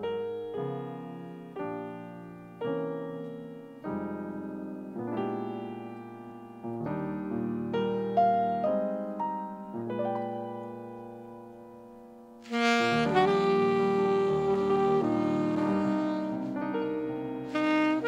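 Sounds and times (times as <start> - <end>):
grand piano chords: 0.0 - 18.0.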